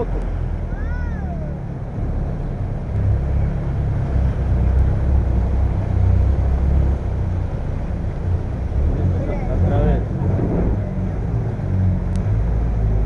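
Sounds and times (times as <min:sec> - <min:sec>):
motorboat engine rumbling: 0:00.0 - 0:13.0.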